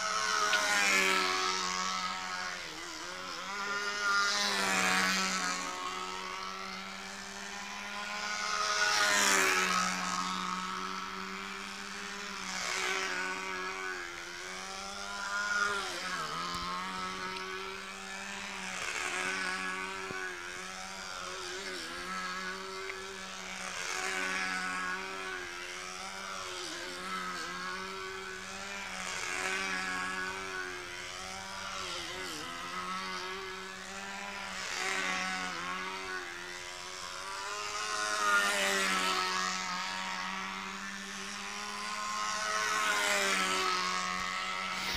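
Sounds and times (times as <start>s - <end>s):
model aeroplane engine buzzing: 0.0s - 44.9s.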